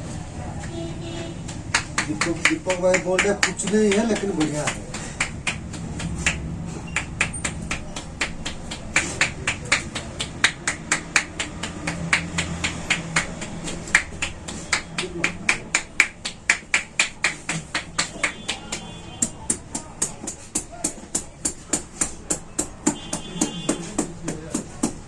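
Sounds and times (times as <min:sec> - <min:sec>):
hands clapping on head: 0:01.4 - 0:25.0.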